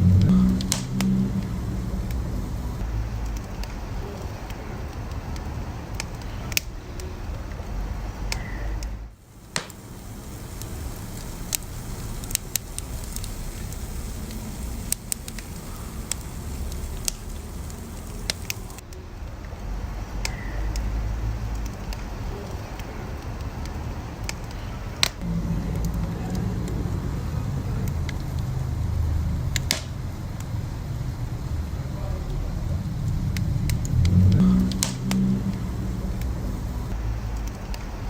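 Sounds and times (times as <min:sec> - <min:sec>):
low rumble of fire: 0:00.0 - 0:38.0
wood fire crackling: 0:00.0 - 0:38.0.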